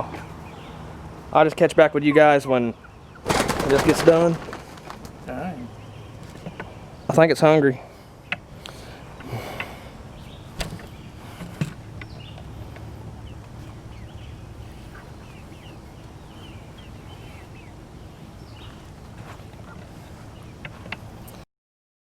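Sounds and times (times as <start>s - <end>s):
chicks peeping: 0.0s - 7.4s, 8.2s - 21.3s
steady low hum: 2.8s - 21.4s.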